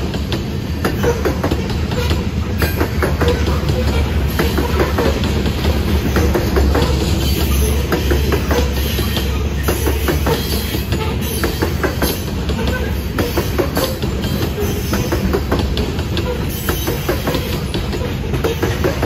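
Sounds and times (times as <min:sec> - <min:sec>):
freight train rumbling past: 0:00.0 - 0:19.0
wheels clicking over rails: 0:00.0 - 0:19.0.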